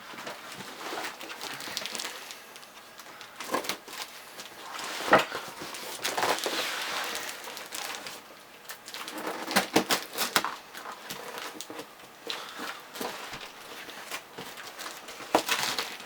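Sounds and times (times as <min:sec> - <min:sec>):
cardboard scraping and rustling: 0:00.0 - 0:02.2, 0:03.4 - 0:08.2, 0:08.8 - 0:16.0.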